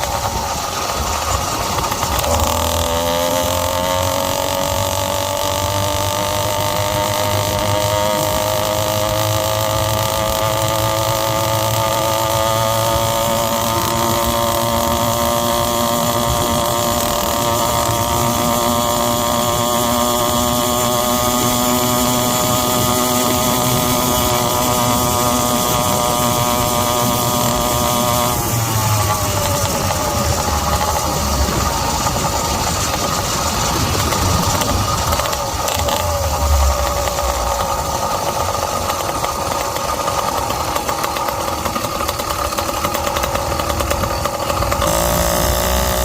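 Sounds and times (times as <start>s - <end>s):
two-stroke engine running: 0.0s - 46.0s.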